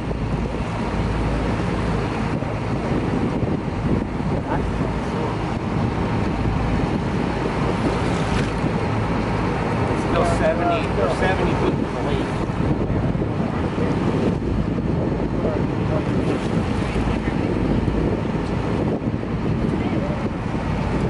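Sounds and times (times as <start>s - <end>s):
water washing against hull: 0.0s - 21.0s
wind buffeting microphone: 0.0s - 21.0s.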